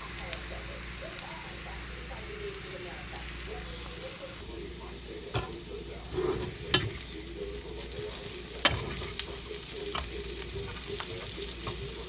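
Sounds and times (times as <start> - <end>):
food sizzling in a pan: 0.0 - 12.0
utensil stirring food: 0.0 - 12.0.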